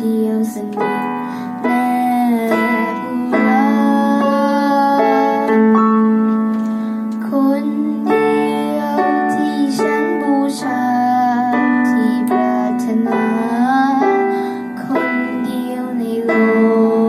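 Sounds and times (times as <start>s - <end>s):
piano accompaniment: 0.0s - 17.0s
woman singing: 0.0s - 17.0s.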